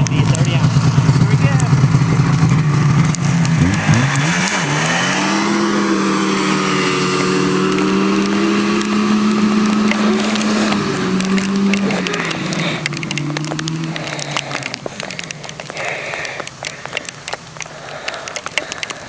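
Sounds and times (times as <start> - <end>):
snowmobile engine revving: 0.0 - 19.0.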